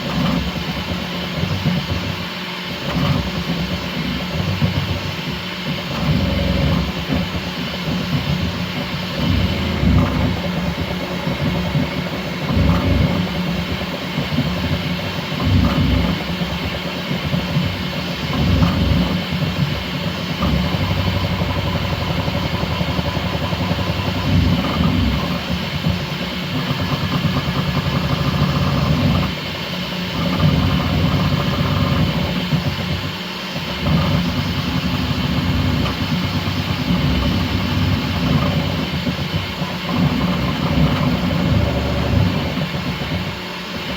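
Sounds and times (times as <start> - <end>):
steady mechanical whir: 0.0 - 43.9
stepper motors buzzing: 0.0 - 43.9.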